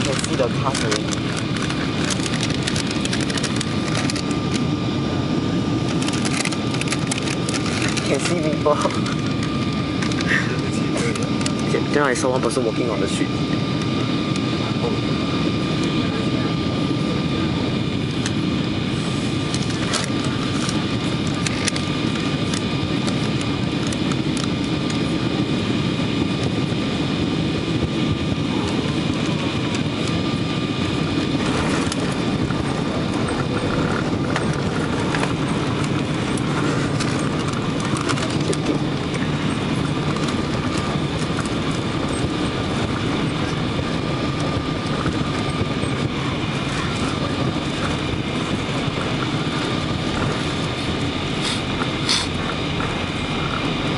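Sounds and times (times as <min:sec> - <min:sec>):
airliner cabin roar: 0:00.0 - 0:53.9
faint steady whine: 0:00.0 - 0:53.9.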